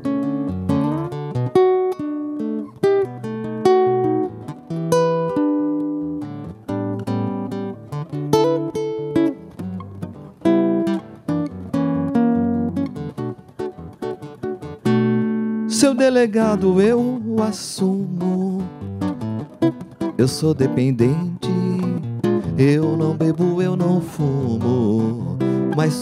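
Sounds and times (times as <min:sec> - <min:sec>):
fingerpicked nylon-string guitar: 0:00.0 - 0:26.0.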